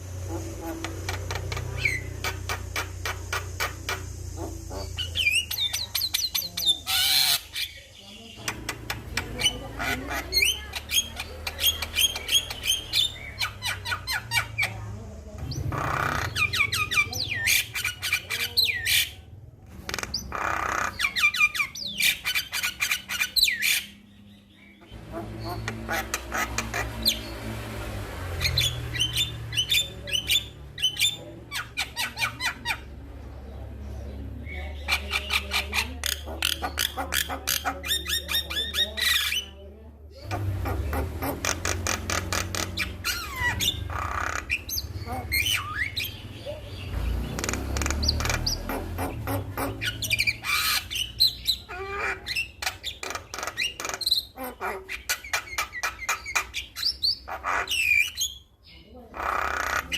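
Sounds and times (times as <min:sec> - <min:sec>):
myna squawking and chirping: 0:00.0 - 0:59.9.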